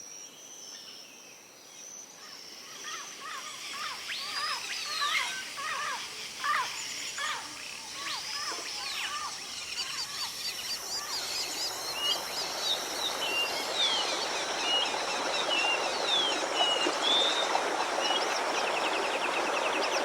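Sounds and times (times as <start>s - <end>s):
faint high-pitched background hiss: 0.0s - 20.0s
birds chirping: 3.6s - 20.0s.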